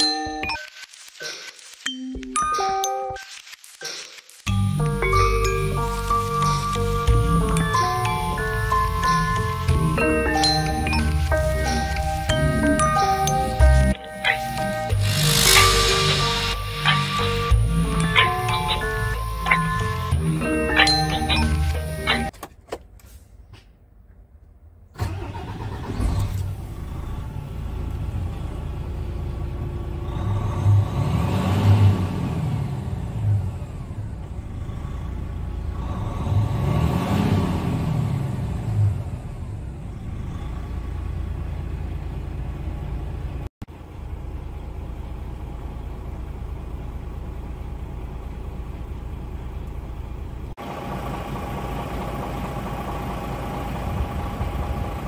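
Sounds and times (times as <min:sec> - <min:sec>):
diesel engine idling and revving: 0:04.5 - 0:22.3, 0:24.9 - 0:55.0.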